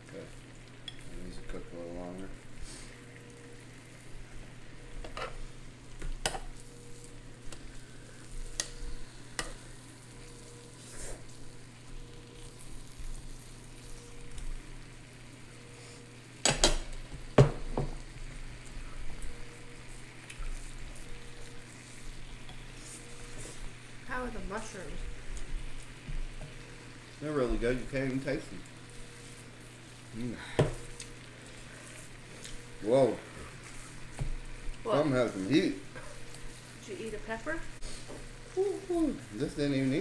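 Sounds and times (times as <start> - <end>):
food sizzling: 0.0 - 40.0.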